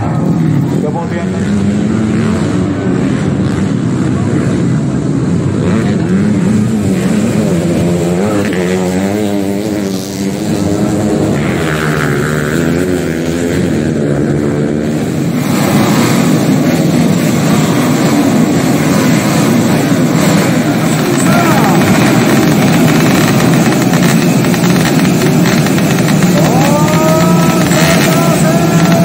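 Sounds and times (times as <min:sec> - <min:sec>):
dirt-bike engines revving: 0:00.0 - 0:29.0.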